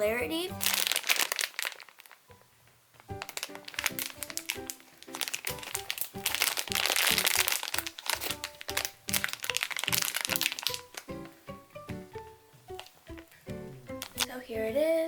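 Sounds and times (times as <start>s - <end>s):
simple background music: 0.0s - 1.5s, 2.2s - 15.0s
plastic packaging crinkling: 0.0s - 14.5s.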